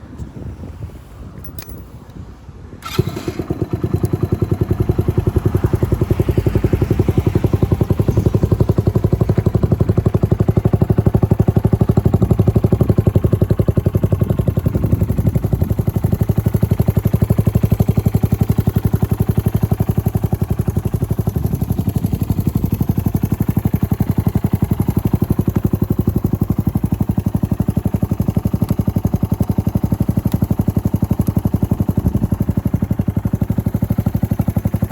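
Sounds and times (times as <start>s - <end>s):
motorcycle engine starting and running: 2.8s - 34.9s.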